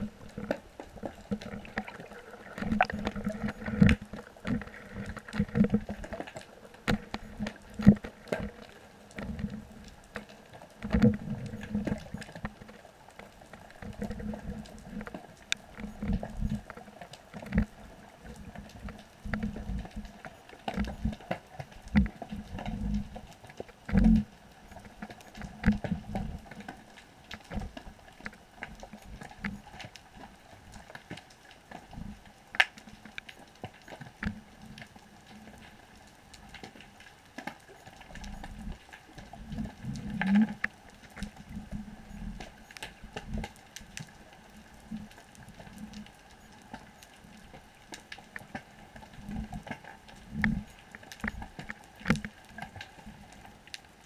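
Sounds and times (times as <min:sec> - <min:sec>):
underwater clicks and crackles: 0:00.0 - 0:54.0.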